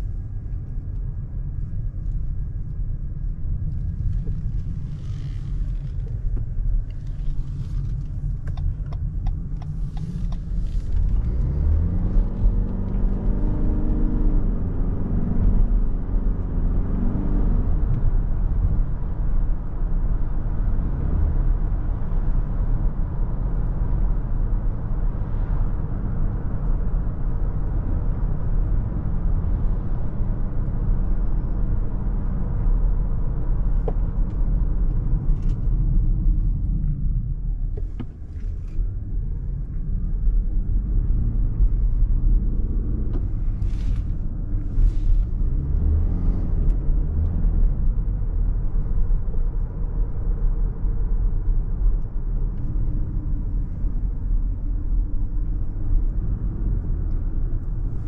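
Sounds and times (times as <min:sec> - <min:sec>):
road and tyre rumble: 0:00.0 - 0:58.0
car engine accelerating: 0:03.8 - 0:58.0.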